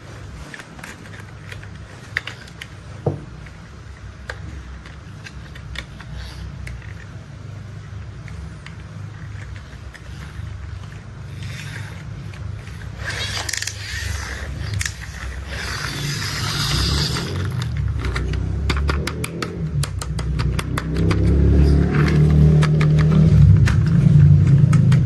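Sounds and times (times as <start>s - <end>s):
toy scraping: 0.0s - 25.0s
toy vehicles clicking: 0.0s - 25.0s.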